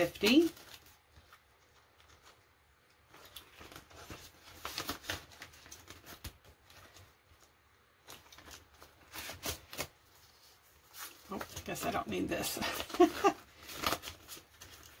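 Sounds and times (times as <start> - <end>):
banknotes rustling: 0.0 - 15.0.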